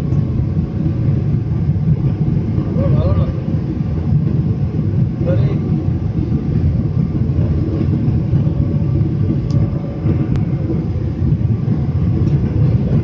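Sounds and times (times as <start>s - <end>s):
airliner rumble landing: 0.0s - 13.0s.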